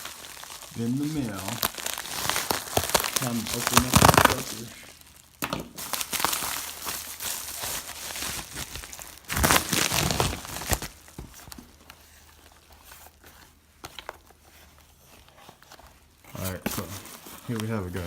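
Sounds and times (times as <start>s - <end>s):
packaging tearing and crinkling: 0.0s - 14.4s, 15.0s - 18.0s.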